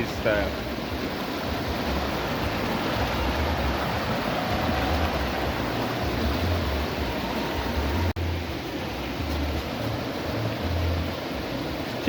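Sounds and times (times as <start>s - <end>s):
river rushing: 0.0s - 12.0s
wind rumbling on microphone: 0.0s - 12.0s.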